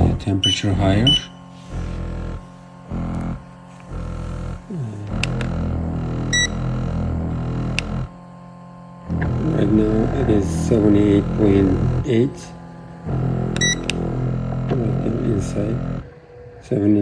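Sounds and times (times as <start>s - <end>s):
clicks: 0.0s - 16.2s
massager motor droning: 0.0s - 17.0s.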